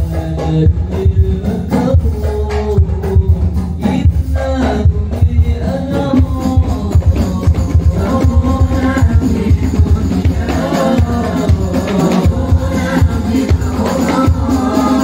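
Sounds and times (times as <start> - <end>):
frame drums beating: 0.0 - 15.0
man singing over loudspeaker: 0.0 - 15.0.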